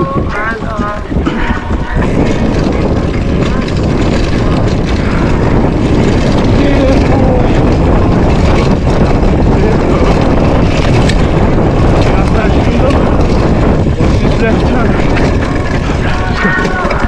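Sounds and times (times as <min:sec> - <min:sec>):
bike tyres rumbling on dirt: 0:00.0 - 0:17.0
wind rushing on microphone: 0:00.0 - 0:17.0.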